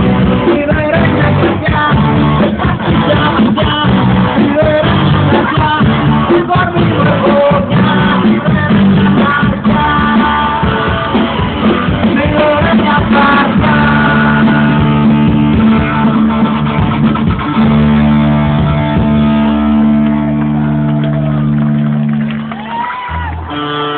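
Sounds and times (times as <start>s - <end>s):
bass: 0.0s - 23.9s
guitar: 0.0s - 23.9s.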